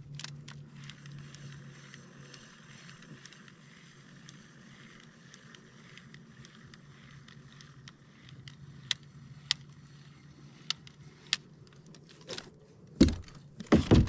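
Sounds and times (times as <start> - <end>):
fishing reel clicks and taps: 0.1 - 12.3.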